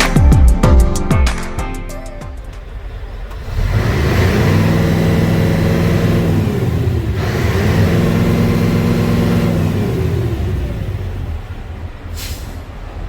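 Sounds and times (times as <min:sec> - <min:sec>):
diesel truck engine revving: 0:02.4 - 0:13.0.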